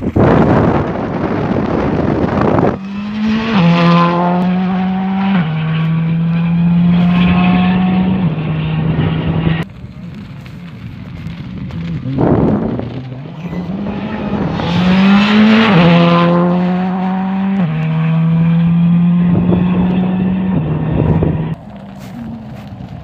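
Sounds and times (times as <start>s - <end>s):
rally car passing on gravel: 0.1s - 23.0s
distant car approaching: 0.5s - 23.0s.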